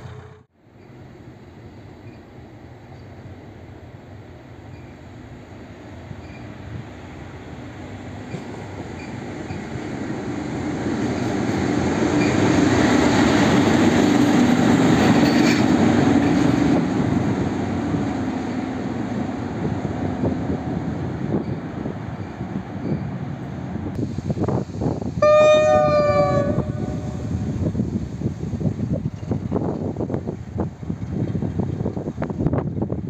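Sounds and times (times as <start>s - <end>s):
diesel locomotive engine passing: 0.0s - 33.0s.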